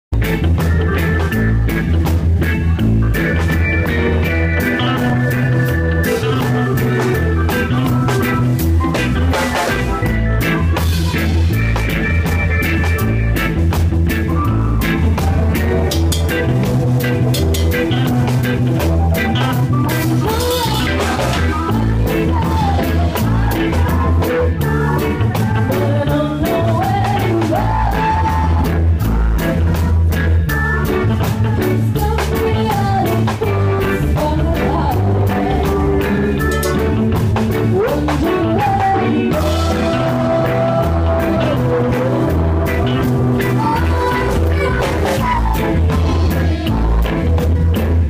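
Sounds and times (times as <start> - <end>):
live rock band playing: 0.0 - 48.0.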